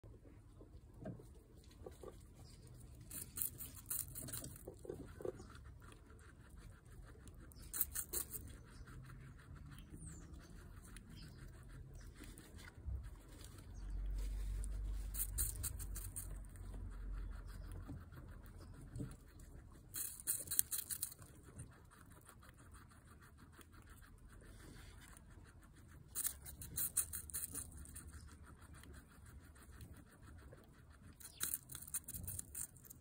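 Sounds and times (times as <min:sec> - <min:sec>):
guinea pig crunching apple: 0:00.0 - 0:33.0.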